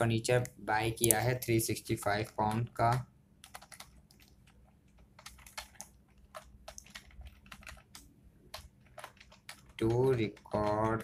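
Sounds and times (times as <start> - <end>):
computer keyboard typing: 0.3 - 11.0.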